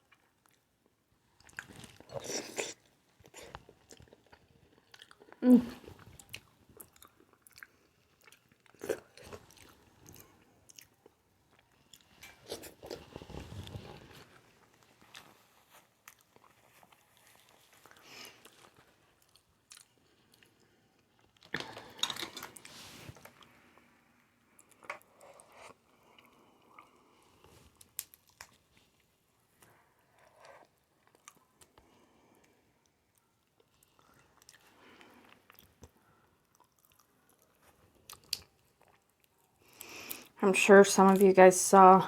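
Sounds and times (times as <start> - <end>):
person chewing crunchy food: 1.4 - 23.8, 24.5 - 31.8, 33.2 - 40.4.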